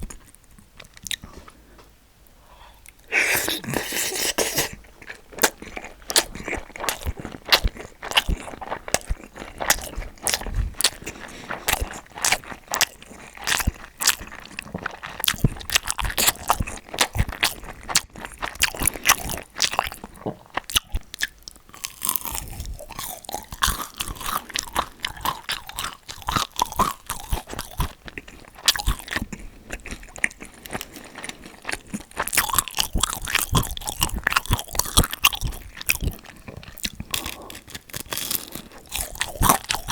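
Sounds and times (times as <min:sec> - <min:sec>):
crunchy food chewing: 0:00.0 - 0:01.6, 0:02.9 - 0:39.9.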